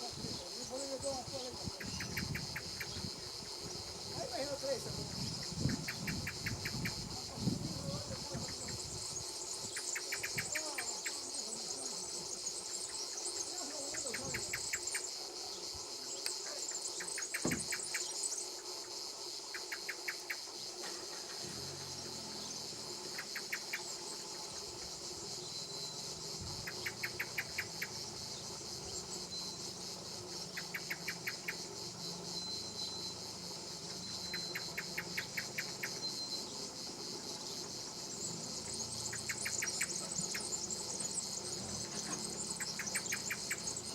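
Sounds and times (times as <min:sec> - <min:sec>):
insects chirring drone: 0:00.0 - 0:43.9
rapid insect clicking pulses: 0:00.0 - 0:43.9.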